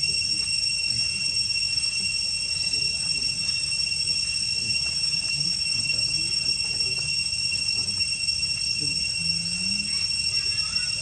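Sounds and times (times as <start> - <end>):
high-pitched two-tone drone: 0.0 - 11.0
low indistinct murmur: 0.0 - 11.0.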